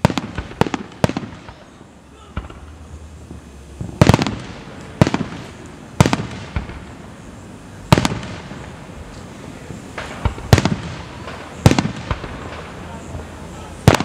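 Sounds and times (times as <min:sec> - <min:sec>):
fireworks booming with echo: 0:00.0 - 0:14.0.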